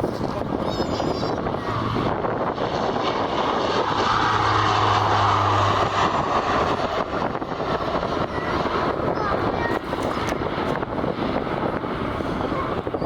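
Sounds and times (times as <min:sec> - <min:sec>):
aircraft engines rushing: 0:00.0 - 0:13.0
steady low hum: 0:01.4 - 0:12.2.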